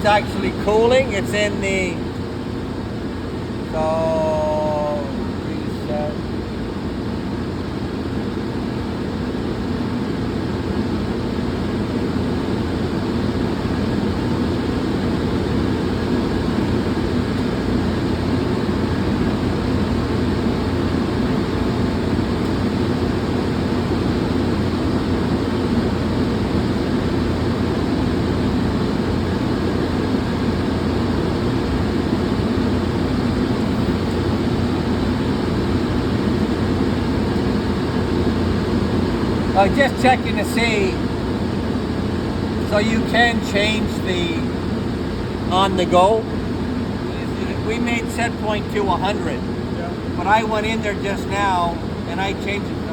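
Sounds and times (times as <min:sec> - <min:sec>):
low roar of machinery: 0:00.0 - 0:52.9.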